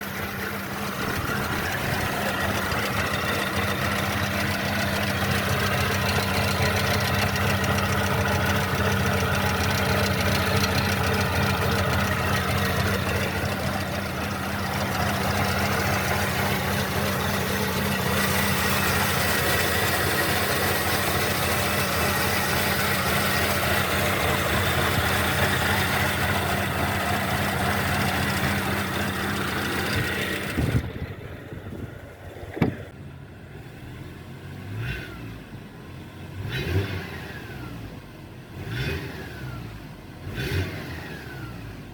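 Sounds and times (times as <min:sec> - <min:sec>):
car engine idling: 0:00.0 - 0:34.7.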